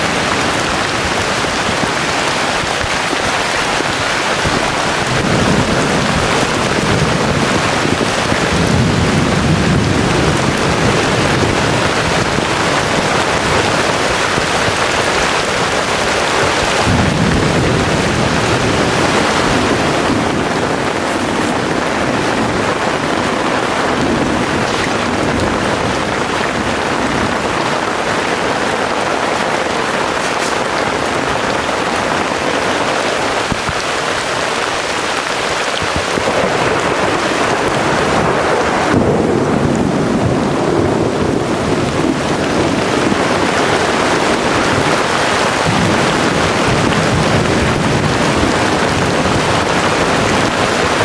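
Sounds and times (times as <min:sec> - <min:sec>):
heavy rain pouring: 0:00.0 - 0:51.0
thunder rumbling: 0:00.0 - 0:51.0.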